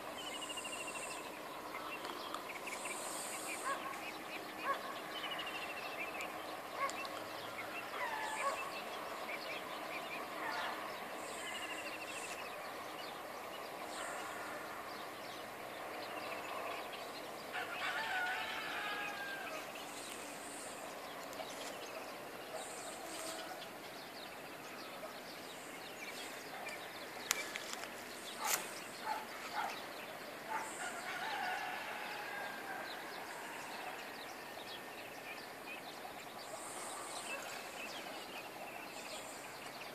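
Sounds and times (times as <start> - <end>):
background hiss: 0.0 - 39.9
birds chirping: 0.0 - 39.9.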